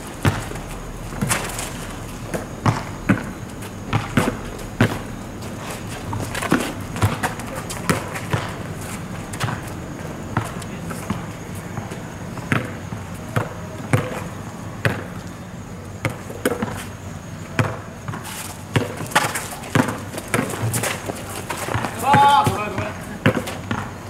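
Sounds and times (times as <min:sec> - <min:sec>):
basketball bouncing on asphalt: 0:00.0 - 0:15.3, 0:16.0 - 0:24.0.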